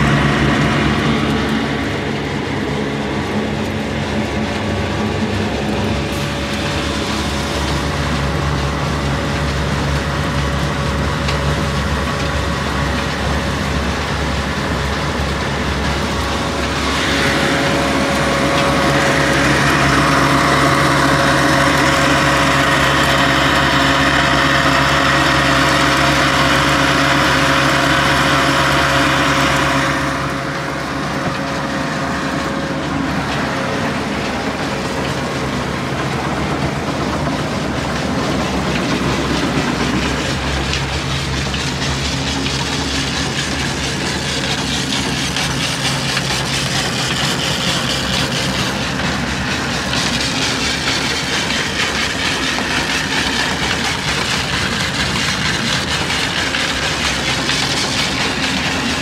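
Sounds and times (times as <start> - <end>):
diesel engine droning: 0.0 - 59.0
grain rushing through mill: 0.0 - 59.0.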